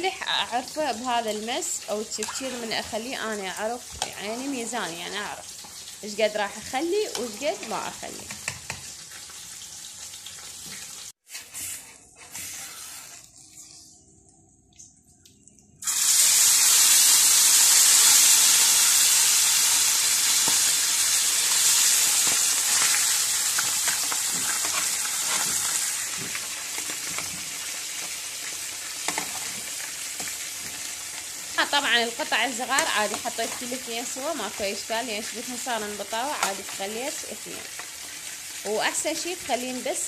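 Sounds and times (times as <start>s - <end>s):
fish sizzling in hot oil: 0.0s - 11.3s, 15.8s - 40.0s.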